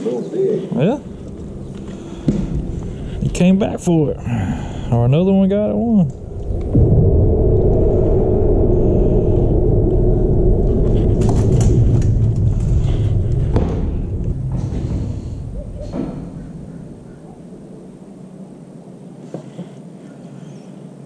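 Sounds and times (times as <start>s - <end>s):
traffic rumble on bridge: 0.9s - 5.0s, 5.8s - 20.0s.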